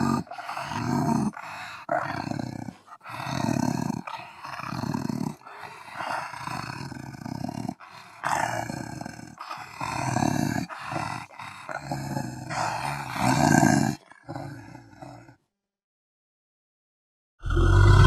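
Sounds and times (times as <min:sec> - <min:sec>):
wolf growling: 0:00.0 - 0:15.4.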